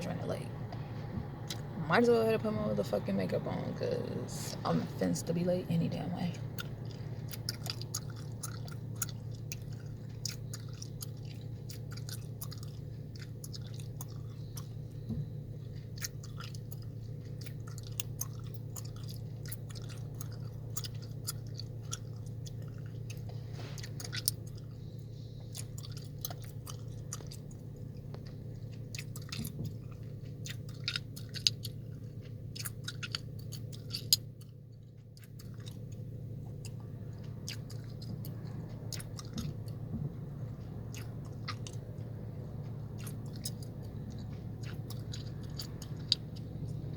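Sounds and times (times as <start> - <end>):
low car interior hum: 0.0 - 46.9
gum chewing smacks and clicks: 0.1 - 2.3, 6.3 - 46.9.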